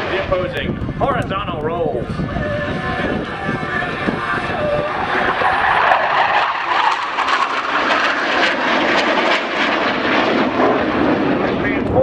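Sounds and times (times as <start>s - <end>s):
jets passing with crackling roar: 0.0s - 12.0s.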